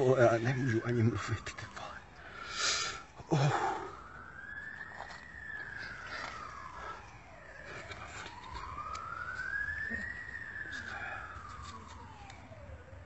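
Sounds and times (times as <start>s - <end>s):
emergency siren wailing: 0.0s - 13.0s.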